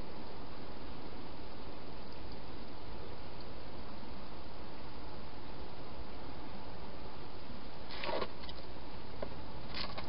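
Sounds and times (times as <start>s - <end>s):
microphone hiss: 0.0s - 10.0s.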